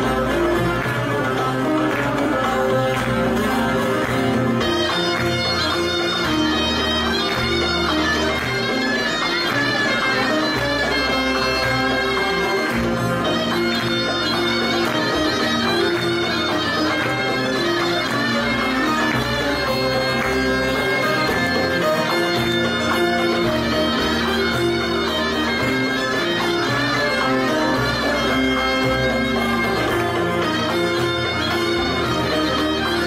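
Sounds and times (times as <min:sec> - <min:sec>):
lute ensemble folk music: 0:00.0 - 0:33.0.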